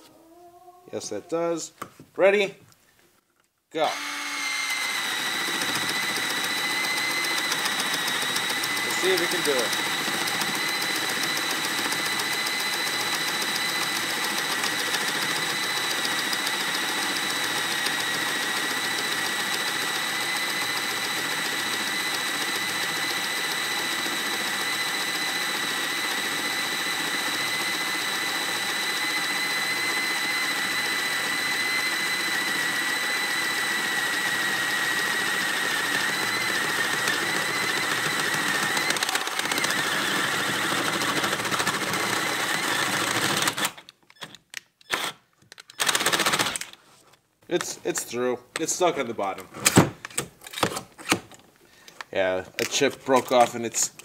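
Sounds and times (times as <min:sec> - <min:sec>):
drill boring through wood: 0:03.8 - 0:46.8, 0:52.2 - 0:53.9.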